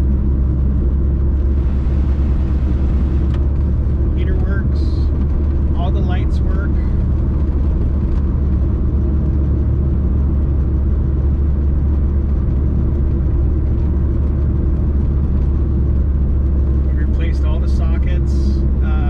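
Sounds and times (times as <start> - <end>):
engine and road noise drone: 0.0 - 19.0.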